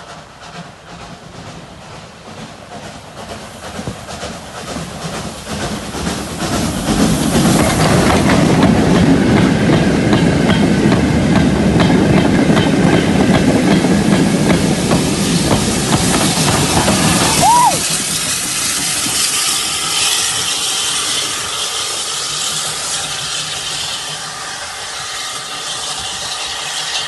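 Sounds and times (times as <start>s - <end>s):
steam train rumbling: 0.0s - 27.0s.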